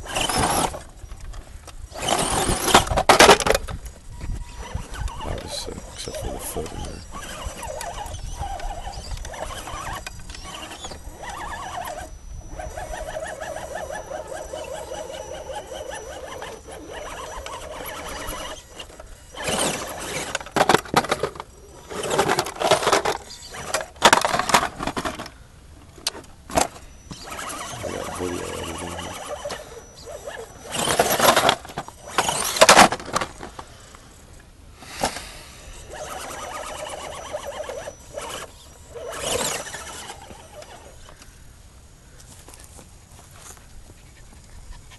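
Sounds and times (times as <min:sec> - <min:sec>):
toy car electric motor whining: 0:00.0 - 0:25.3, 0:26.1 - 0:41.4
scraping on rock: 0:01.9 - 0:25.3, 0:26.5 - 0:33.6, 0:34.9 - 0:41.2.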